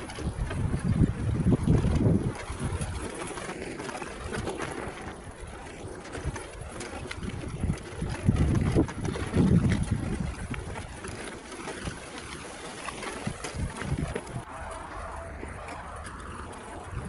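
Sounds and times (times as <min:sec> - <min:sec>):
faint crackles: 0:00.0 - 0:17.0
wind buffeting microphone: 0:00.0 - 0:17.0.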